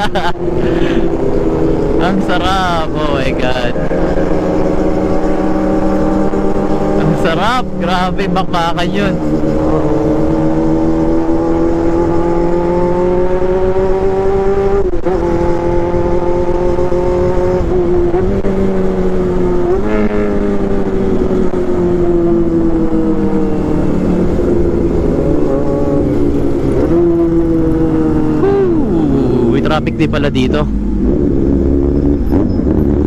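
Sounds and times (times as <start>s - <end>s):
low wind rumble: 0.0s - 33.0s
motorcycle engine running hard: 0.0s - 33.0s.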